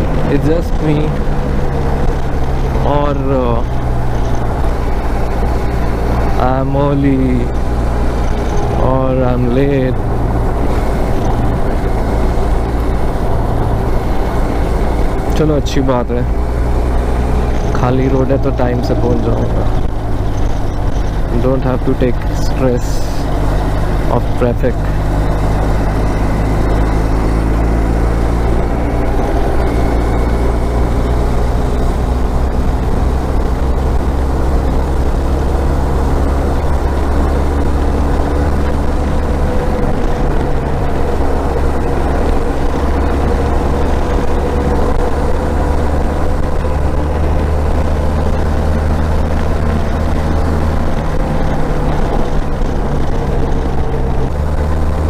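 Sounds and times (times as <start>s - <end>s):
motorcycle engine cruising: 0.0s - 55.0s
road and wind noise: 0.0s - 55.0s.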